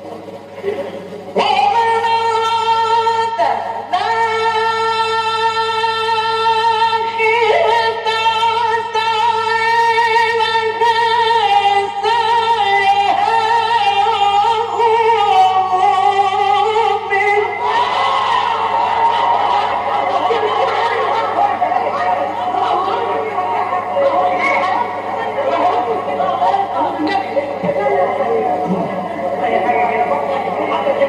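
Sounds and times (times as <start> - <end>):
low recording hum: 0.0 - 31.0.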